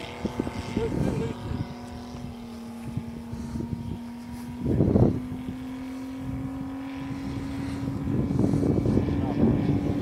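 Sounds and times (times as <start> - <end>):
model airplane engine in flight: 0.0 - 10.0.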